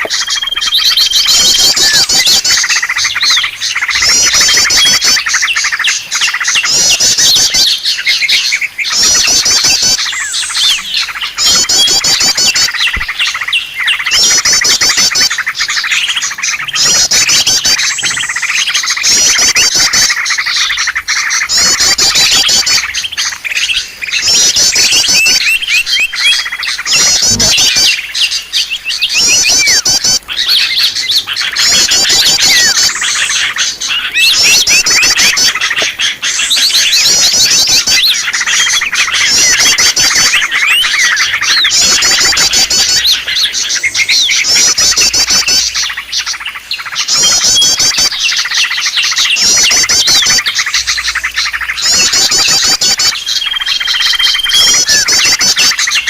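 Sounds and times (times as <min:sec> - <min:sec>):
rapid high bird trill: 0:00.0 - 0:56.0
small birds chirping: 0:00.0 - 0:56.0.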